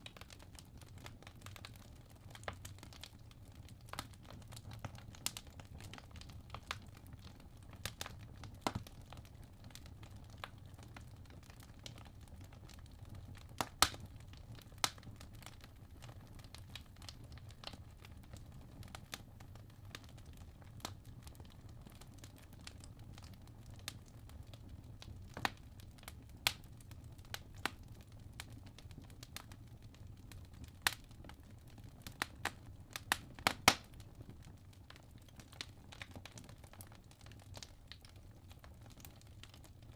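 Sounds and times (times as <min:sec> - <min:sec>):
logs crackling in fireplace: 0:00.0 - 0:39.9
low steady fire rumble: 0:00.0 - 0:39.9.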